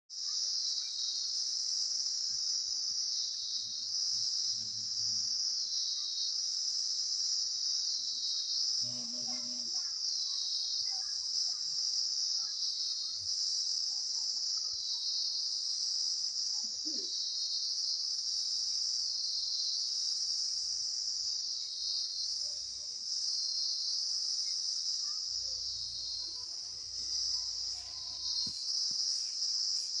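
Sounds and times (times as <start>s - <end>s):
insects trilling: 0.1s - 30.0s.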